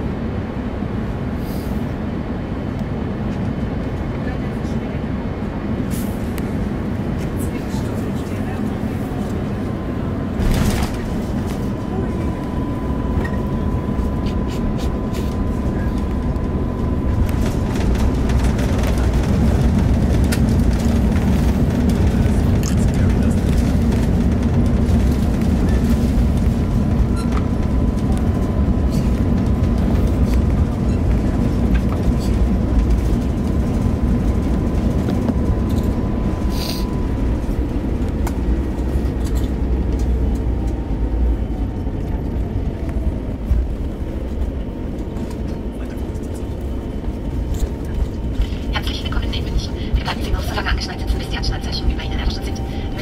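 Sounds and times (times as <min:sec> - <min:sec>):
jet engines at takeoff thrust: 0:00.0 - 0:53.0
wheels rumbling on runway: 0:00.0 - 0:53.0.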